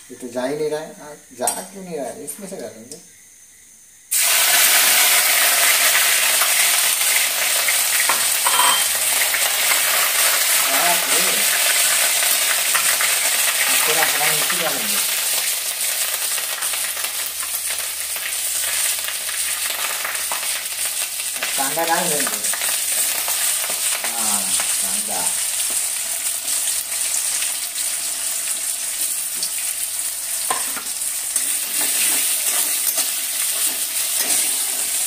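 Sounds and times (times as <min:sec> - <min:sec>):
paste sizzling in hot oil: 0:04.1 - 0:35.0.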